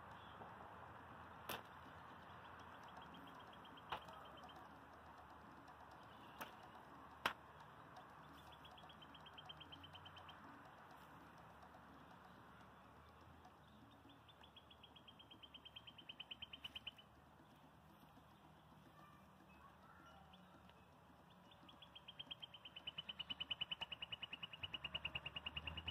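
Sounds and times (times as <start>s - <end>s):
sharp clicks: 0.0s - 25.9s
small bird trilling: 1.8s - 25.9s.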